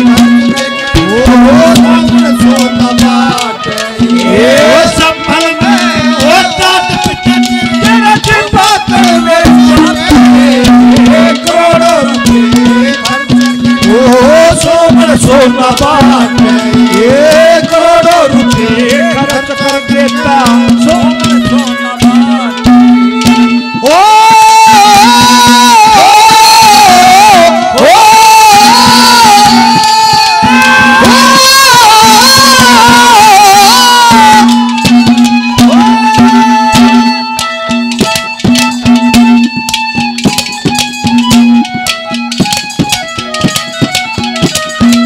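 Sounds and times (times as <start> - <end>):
man singing long notes: 0.0 - 22.6, 23.7 - 37.2
hand drum strokes: 0.0 - 45.0
harmonium melody: 0.0 - 45.0.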